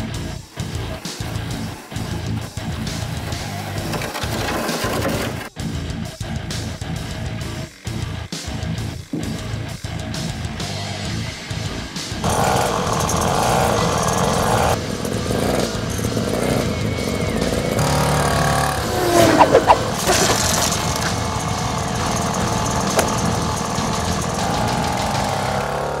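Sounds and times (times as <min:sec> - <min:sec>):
small motorbike engine running: 0:00.0 - 0:26.0.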